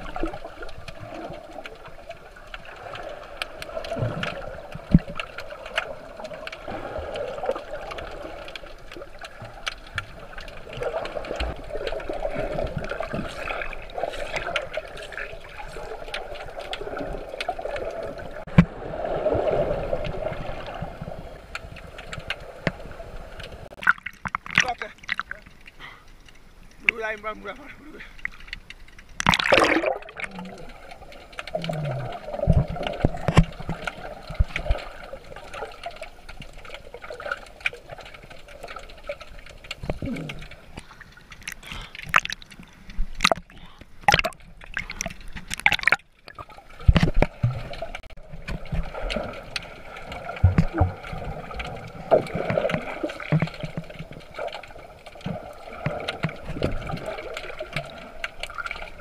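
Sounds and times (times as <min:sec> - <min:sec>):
underwater gurgling and sloshing: 0:00.0 - 0:59.0.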